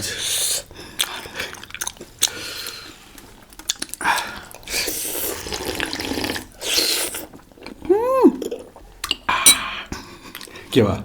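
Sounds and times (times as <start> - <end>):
slurping: 0.1 - 10.7.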